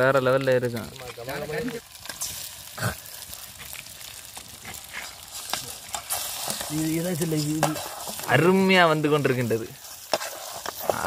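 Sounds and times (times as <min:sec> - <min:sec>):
food sizzling in a pan: 0:00.0 - 0:11.0
ladle stirring a pan: 0:00.7 - 0:11.0.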